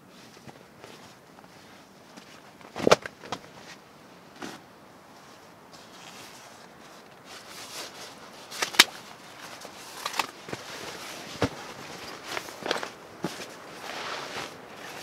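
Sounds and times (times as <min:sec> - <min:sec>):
foam mat rustling: 0:00.1 - 0:15.0.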